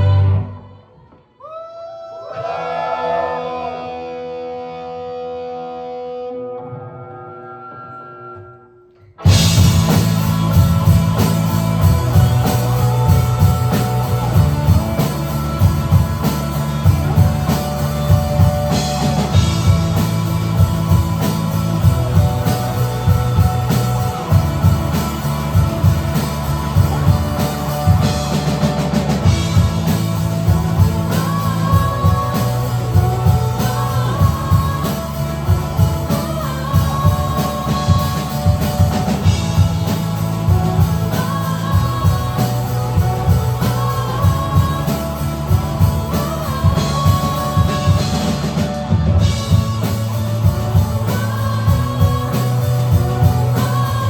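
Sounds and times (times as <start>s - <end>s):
rock band playing: 0.0s - 0.5s, 2.6s - 54.0s
bass guitar: 0.0s - 0.7s, 3.2s - 54.0s
drums: 0.0s - 54.0s
electric guitar: 2.3s - 54.0s.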